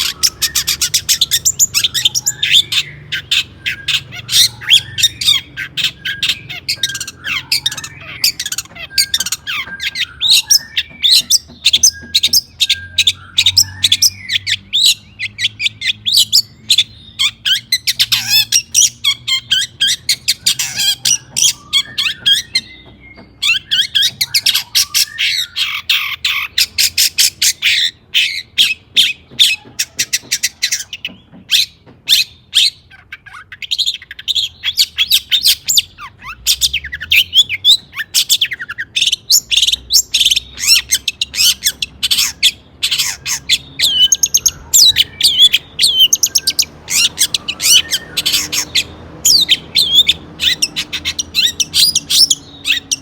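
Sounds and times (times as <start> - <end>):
shrike singing harsh chattering song: 0.0 - 53.0.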